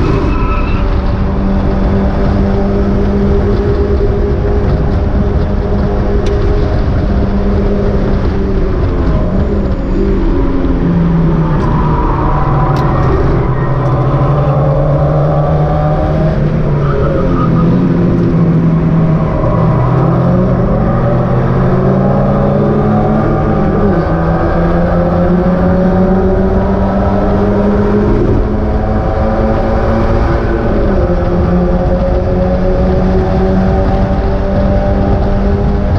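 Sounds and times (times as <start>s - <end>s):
race car engines revving: 0.0s - 35.9s.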